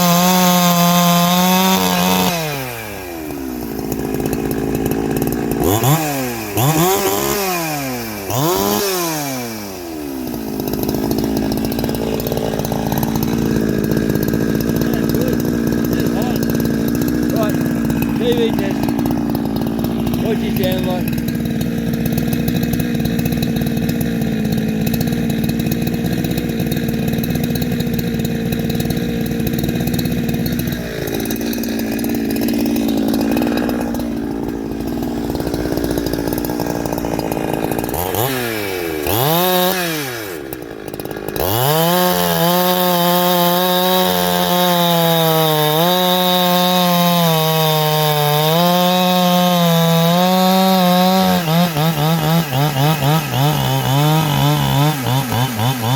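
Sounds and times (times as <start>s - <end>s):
chainsaw running at high revs: 0.0s - 55.9s.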